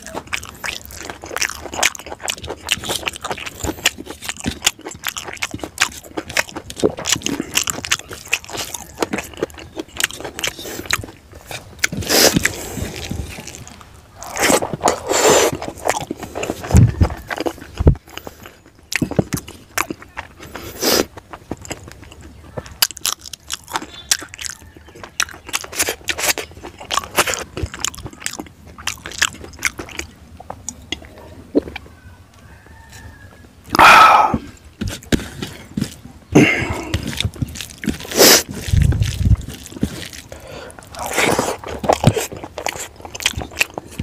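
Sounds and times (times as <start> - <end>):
chewing and crunching: 0.0 - 44.0.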